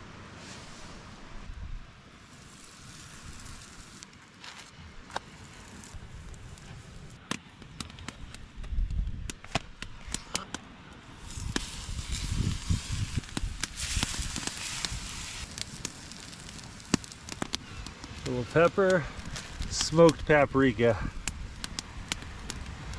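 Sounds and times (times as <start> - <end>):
campfire crackling and popping: 1.9 - 22.9.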